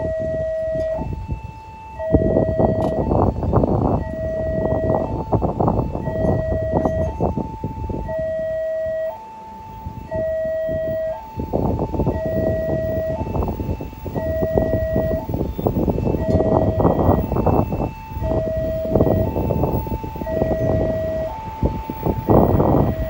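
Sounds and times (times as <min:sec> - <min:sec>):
level crossing two-tone alarm: 0:00.0 - 0:23.0.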